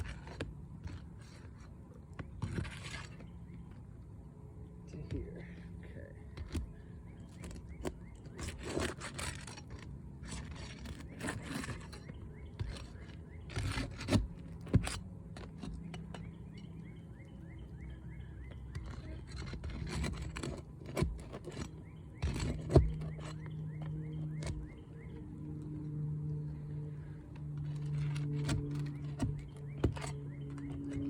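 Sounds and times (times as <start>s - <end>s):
hand tool scraping under shingles: 0.0s - 4.1s, 5.3s - 31.0s.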